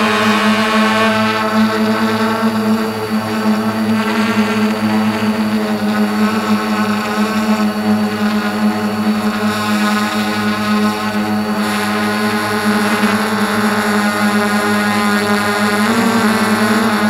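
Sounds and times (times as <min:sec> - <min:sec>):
aircraft motors buzzing: 0:00.0 - 0:17.0.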